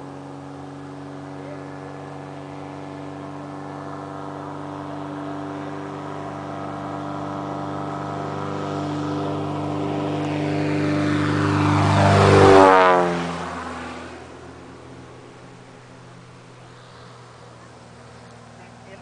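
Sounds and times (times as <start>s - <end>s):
propeller plane flying overhead: 0.0s - 19.0s.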